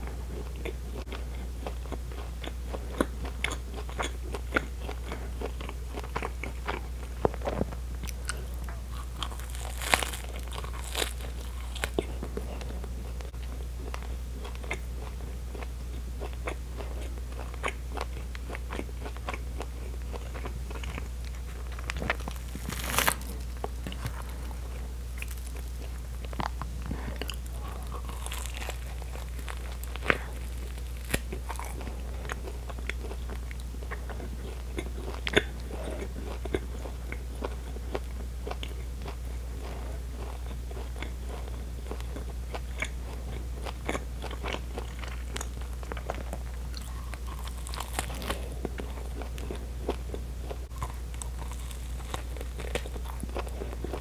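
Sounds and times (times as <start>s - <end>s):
biting and chewing crusty bread: 0.0s - 54.0s.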